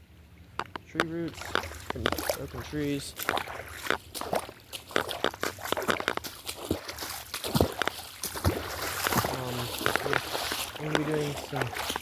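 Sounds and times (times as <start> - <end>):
footsteps on forest floor: 1.3 - 12.0.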